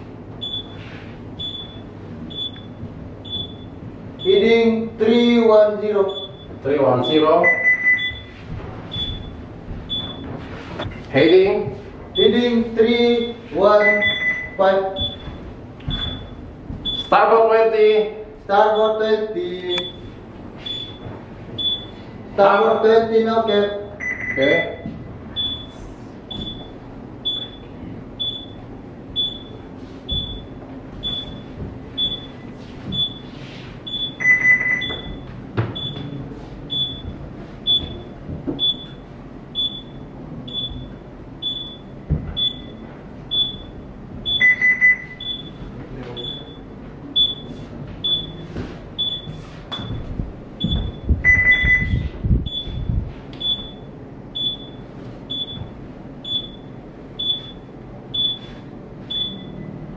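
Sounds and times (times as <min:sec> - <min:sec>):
electronic alarm beeping: 0:00.4 - 0:04.7, 0:06.0 - 0:10.4, 0:12.2 - 0:17.2, 0:18.7 - 0:22.0, 0:23.4 - 0:45.6, 0:46.2 - 0:59.8.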